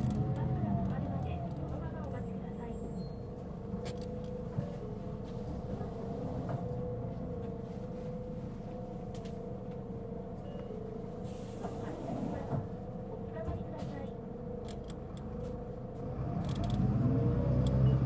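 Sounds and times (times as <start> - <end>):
diesel bus engine whine: 0.0 - 18.0.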